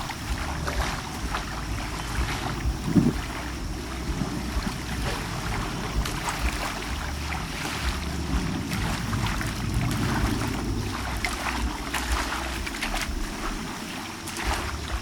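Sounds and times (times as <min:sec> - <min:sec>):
small splashes: 0:00.0 - 0:15.0
water lapping: 0:00.0 - 0:15.0
wind rumbling on microphone: 0:00.0 - 0:15.0.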